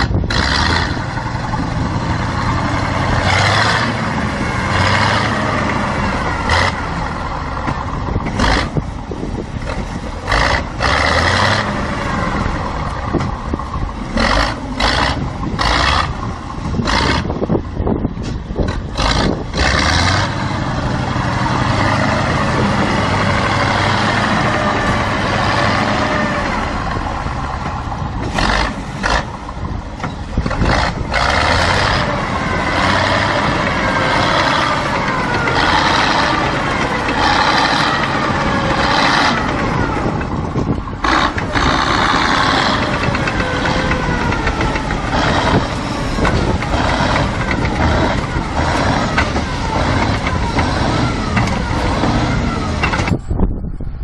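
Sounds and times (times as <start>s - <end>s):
off-road vehicle engine revving: 0.0s - 53.3s.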